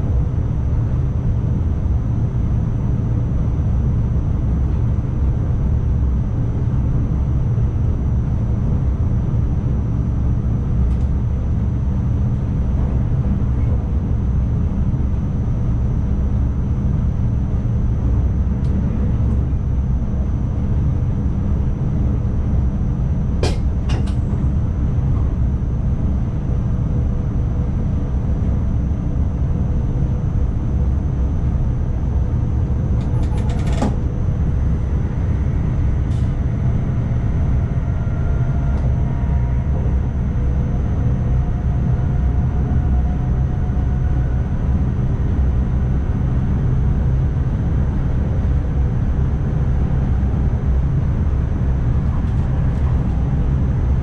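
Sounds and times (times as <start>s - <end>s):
train running rumble: 0.0s - 54.0s
high steady whine: 10.0s - 54.0s.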